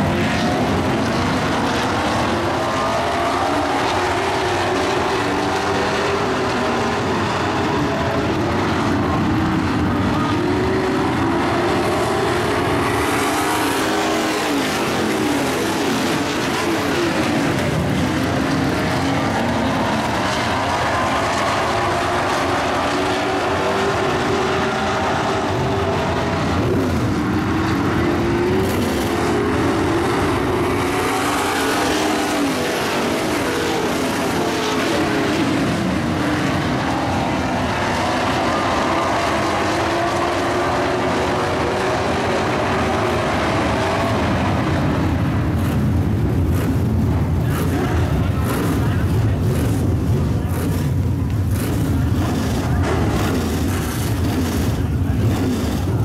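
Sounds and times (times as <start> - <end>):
racing truck engines passing: 0.0 - 56.0.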